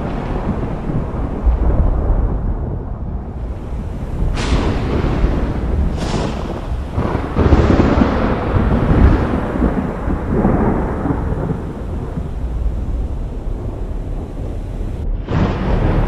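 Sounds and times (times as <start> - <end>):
thunder clap and rolling rumble: 0.0 - 16.0.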